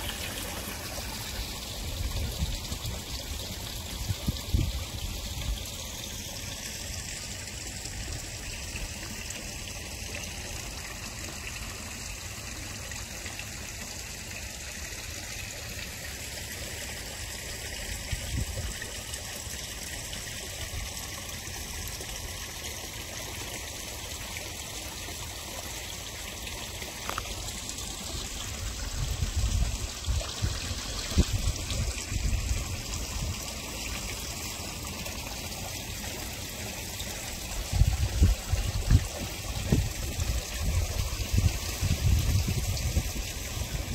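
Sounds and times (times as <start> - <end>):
water trickling in a pond: 0.0 - 43.9.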